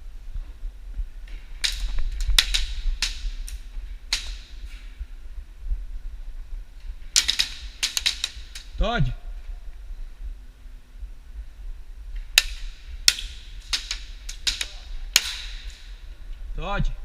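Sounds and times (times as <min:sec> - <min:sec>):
low rumble: 0:00.0 - 0:07.8, 0:08.4 - 0:17.0.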